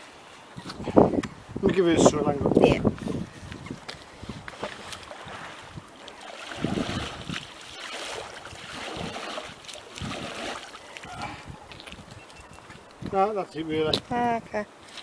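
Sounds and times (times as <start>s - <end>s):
wind buffeting microphone: 0.5s - 14.6s.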